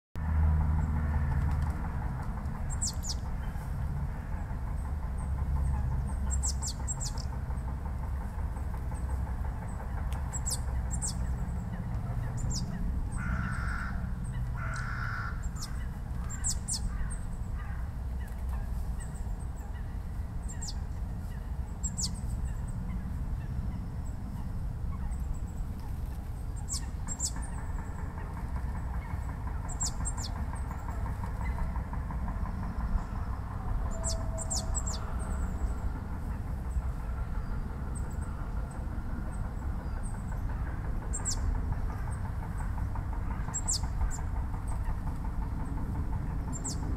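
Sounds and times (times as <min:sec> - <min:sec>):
steady low rumble: 0:00.2 - 0:46.9.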